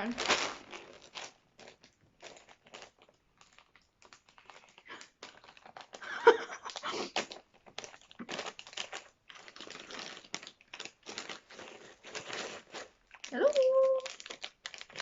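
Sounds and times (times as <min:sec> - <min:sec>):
snack packet crinkling: 0:00.0 - 0:15.0.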